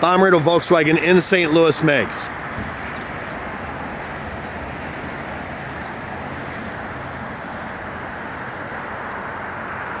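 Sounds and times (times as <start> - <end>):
road traffic rushing hum: 0.0 - 10.0.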